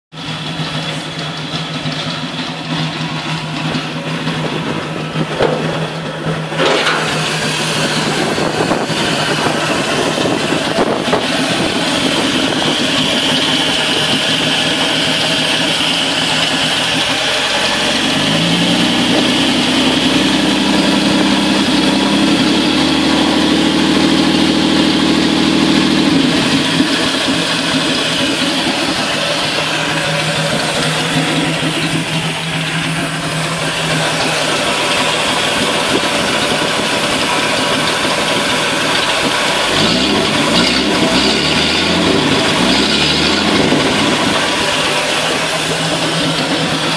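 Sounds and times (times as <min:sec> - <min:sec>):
car engine running without exhaust: 0:00.1 - 0:46.9.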